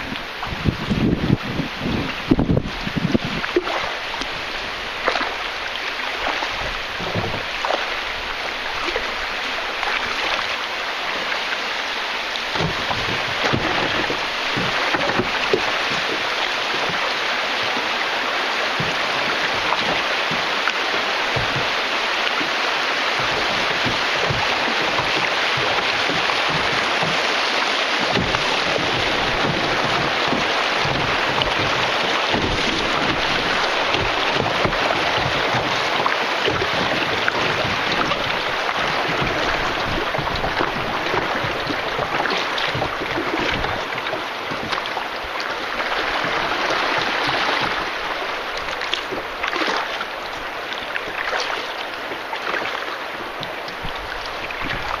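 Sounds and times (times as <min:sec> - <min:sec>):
river water rushing: 0:00.0 - 0:55.0
small splashes or knocks: 0:02.0 - 0:55.0.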